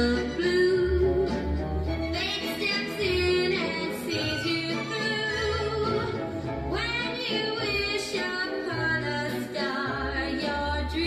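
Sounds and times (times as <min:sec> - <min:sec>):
woman singing with vibrato: 0:00.0 - 0:01.4, 0:02.0 - 0:11.0
instrumental backing with bass: 0:00.0 - 0:11.0.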